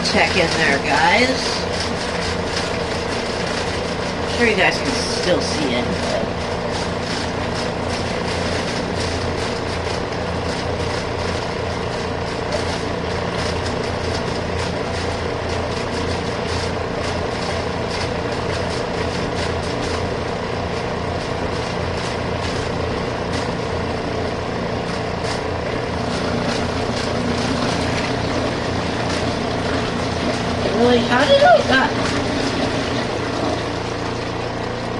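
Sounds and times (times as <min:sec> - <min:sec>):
spin dryer motor hum: 0:00.0 - 0:34.9
water swirling in spinning drum: 0:00.0 - 0:34.9.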